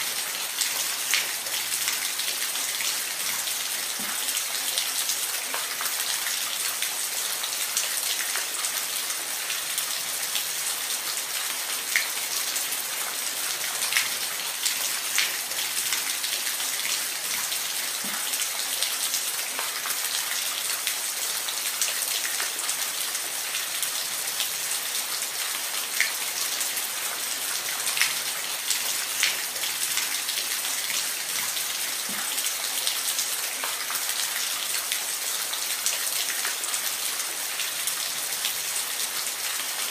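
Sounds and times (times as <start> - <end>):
water splashes and drips: 0.0 - 39.9.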